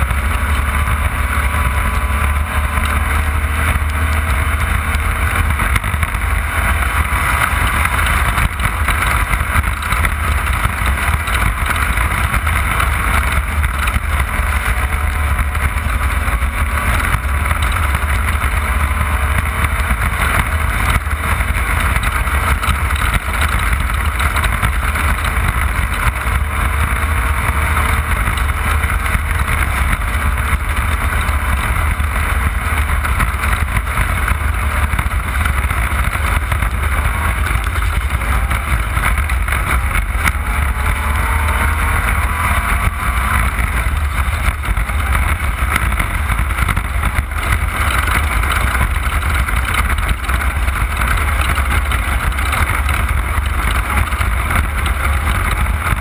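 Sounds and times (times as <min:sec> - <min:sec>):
race car engine rumble: 0:00.0 - 0:56.0
wind and tyre noise: 0:00.0 - 0:56.0.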